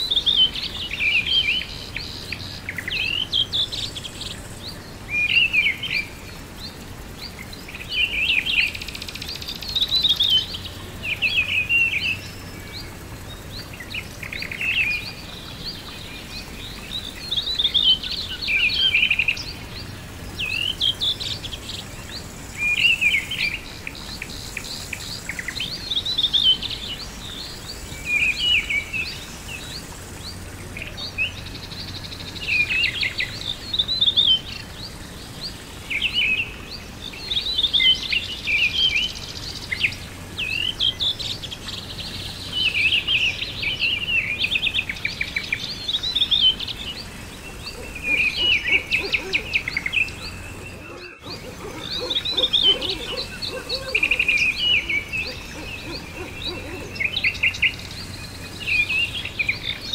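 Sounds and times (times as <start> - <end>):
songbirds chirping: 0.0 - 59.9
steady background hiss: 0.0 - 59.9.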